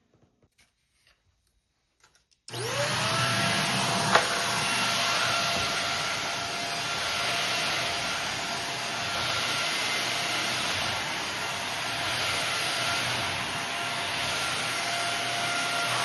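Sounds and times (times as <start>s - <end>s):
vacuum cleaner motor whine: 2.5s - 16.0s.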